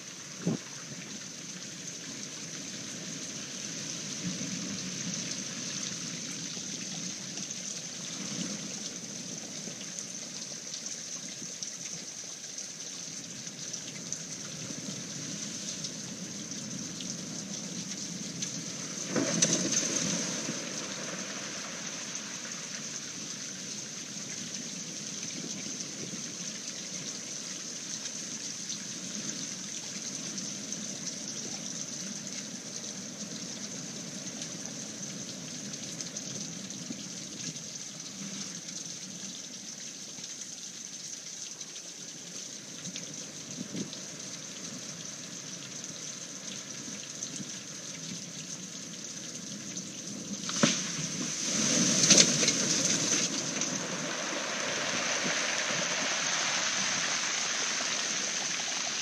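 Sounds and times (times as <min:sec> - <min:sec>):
rushing water in a storm: 0:00.0 - 0:59.0.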